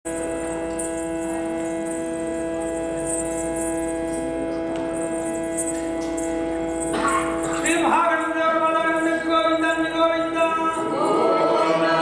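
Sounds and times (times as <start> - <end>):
steady drone of held tones: 0.1 - 12.0.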